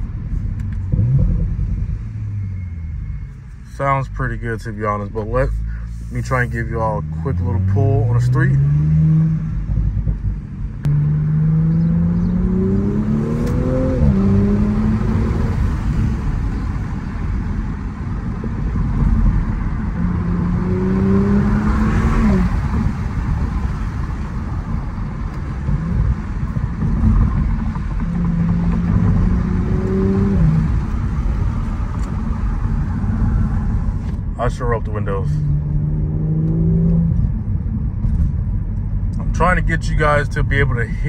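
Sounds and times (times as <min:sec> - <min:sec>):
car engine accelerating: 0:00.0 - 0:41.0
road rumble: 0:00.0 - 0:41.0.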